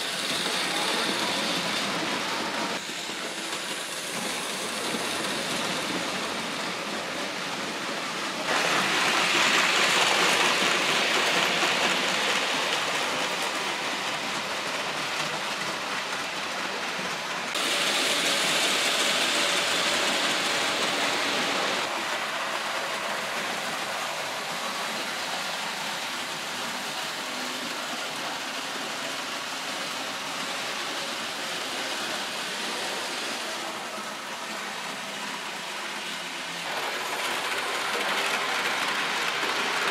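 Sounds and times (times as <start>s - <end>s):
model trains rolling on metal track: 0.0s - 39.9s.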